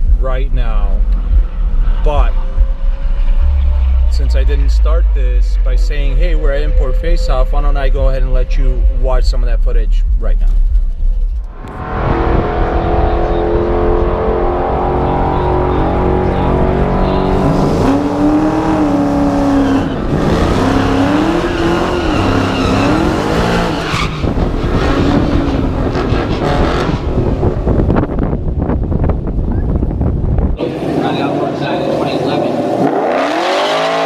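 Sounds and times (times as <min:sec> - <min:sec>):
race car engines revving: 0:00.0 - 0:34.0.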